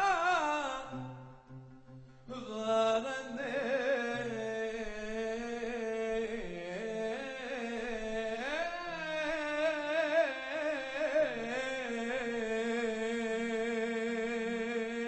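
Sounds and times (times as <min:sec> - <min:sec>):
man singing a hymn: 0:00.0 - 0:01.1, 0:02.3 - 0:15.0.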